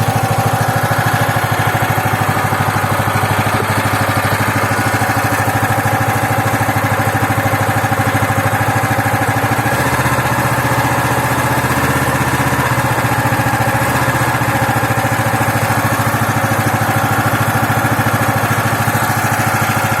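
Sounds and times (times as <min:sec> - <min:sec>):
four-stroke engine running: 0:00.0 - 0:20.0.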